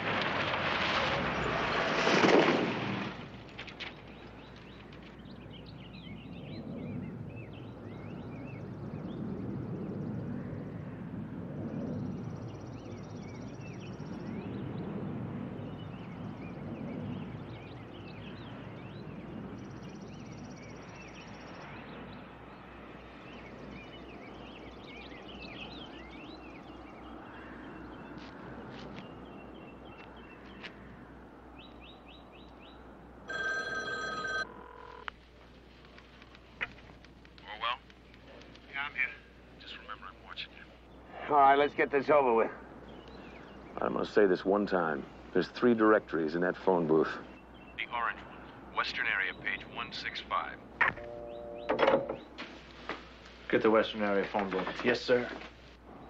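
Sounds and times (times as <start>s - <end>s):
birds chirping: 3.6s - 10.8s, 11.6s - 56.0s.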